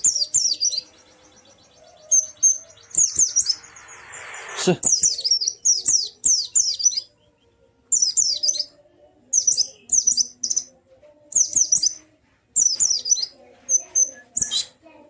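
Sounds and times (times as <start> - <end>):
bird chirping: 0.0 - 14.8.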